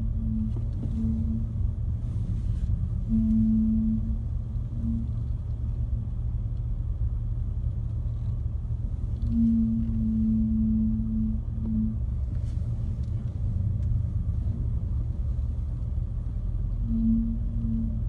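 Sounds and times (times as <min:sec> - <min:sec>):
low rumble of car rolling: 0:00.0 - 0:18.0
steady car groaning: 0:00.0 - 0:18.0.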